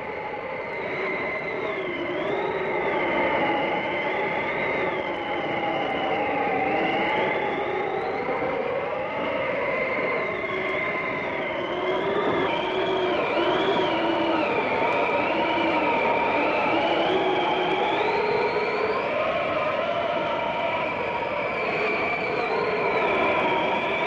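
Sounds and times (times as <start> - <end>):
blizzard wind howling: 0.0 - 24.0
whistling wind tones: 0.0 - 24.0.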